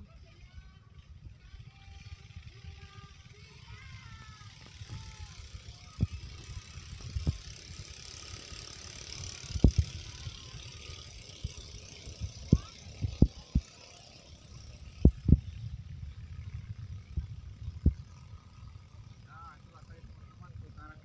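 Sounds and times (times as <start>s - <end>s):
distant boat engines: 0.0s - 21.0s.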